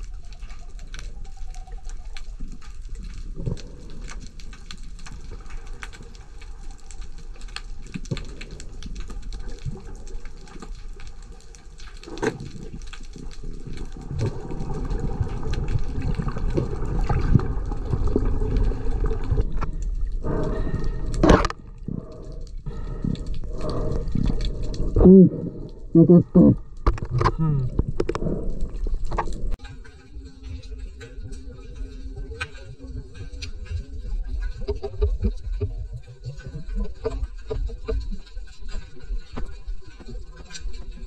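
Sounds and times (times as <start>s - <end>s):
underwater clicks crackling: 0.0s - 41.0s
underwater water noise: 0.0s - 41.0s.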